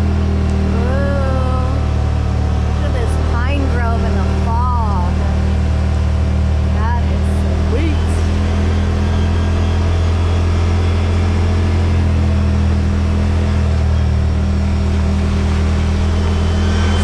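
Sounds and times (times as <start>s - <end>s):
rushing driving noise: 0.0s - 17.0s
utility vehicle engine running: 0.0s - 17.0s.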